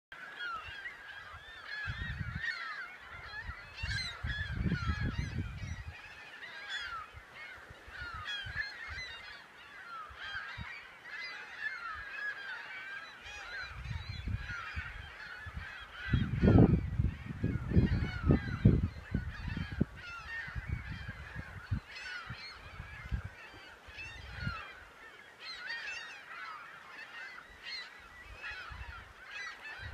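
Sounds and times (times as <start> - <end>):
gulls calling: 0.1 - 29.9.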